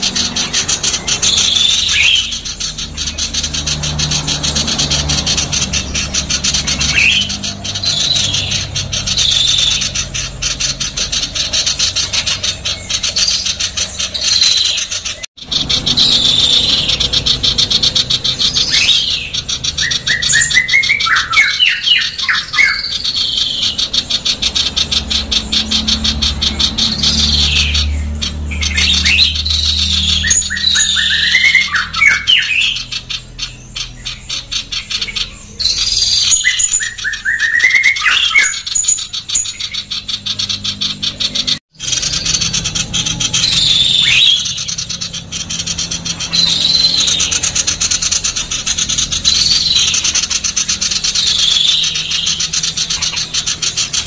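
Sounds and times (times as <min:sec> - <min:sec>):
bird harsh chattering call: 0:00.0 - 0:54.0.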